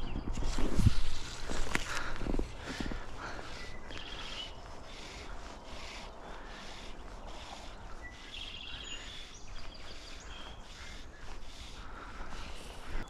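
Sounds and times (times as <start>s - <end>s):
outdoor background noise: 0.0s - 13.0s
small birds chirping: 0.0s - 13.0s.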